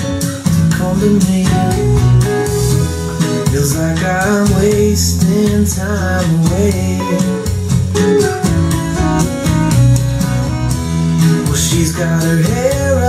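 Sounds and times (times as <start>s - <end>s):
pop-rock song with guitar and drums: 0.0s - 13.0s
person singing: 0.4s - 9.8s, 11.3s - 13.0s.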